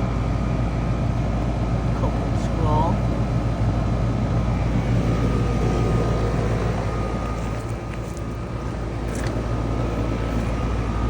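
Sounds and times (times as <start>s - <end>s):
air conditioner unit humming: 0.0s - 11.0s
faint steady whine: 0.0s - 11.0s.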